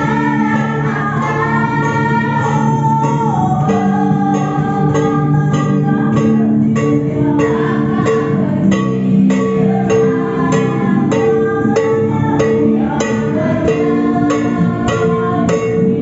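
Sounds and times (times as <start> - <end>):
person singing: 0.0 - 16.0
plucked strings: 0.0 - 16.0.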